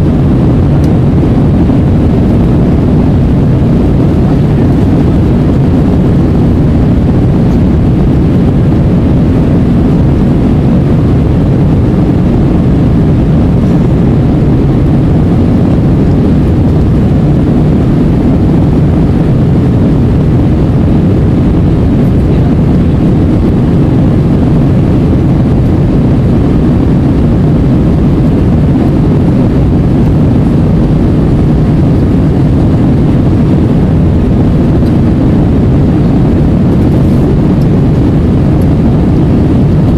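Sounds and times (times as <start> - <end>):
jet airliner rumble: 0.0 - 39.9.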